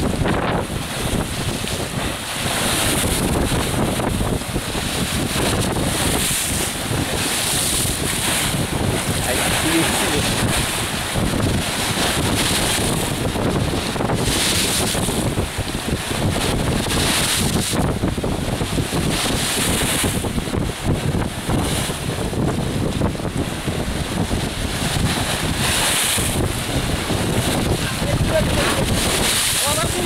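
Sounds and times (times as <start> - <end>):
waves splashing on rocks: 0.0 - 30.0
wind buffeting microphone: 0.0 - 30.0.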